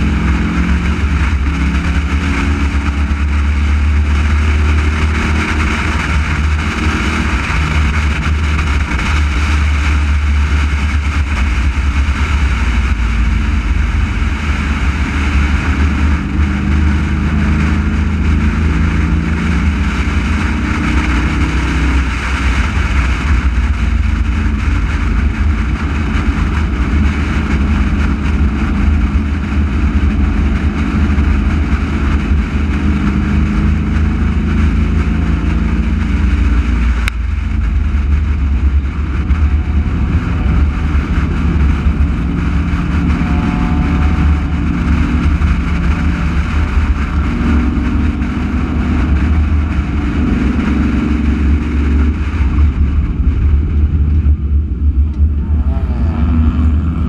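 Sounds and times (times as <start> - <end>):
race car engine: 0.0 - 57.0
wind rumble on microphone: 0.0 - 57.0.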